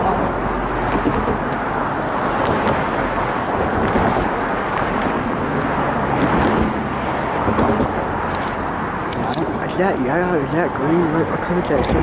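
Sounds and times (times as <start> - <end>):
road traffic noise: 0.0 - 12.0
vehicle humming close by: 0.0 - 12.0.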